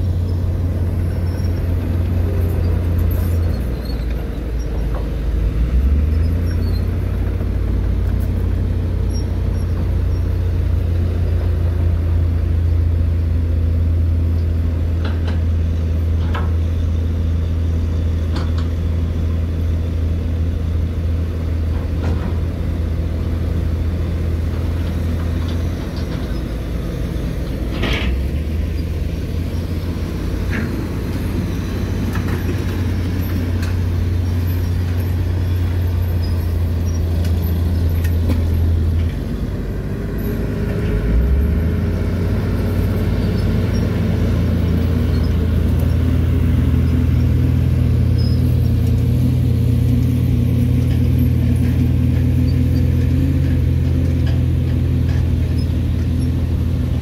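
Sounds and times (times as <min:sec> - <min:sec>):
diesel truck engines droning: 0:00.0 - 0:57.0.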